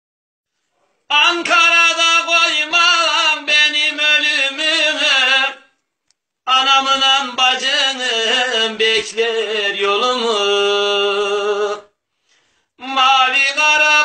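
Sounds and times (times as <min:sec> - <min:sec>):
man singing lament unaccompanied: 0:01.1 - 0:05.7, 0:06.4 - 0:12.0, 0:12.8 - 0:14.0.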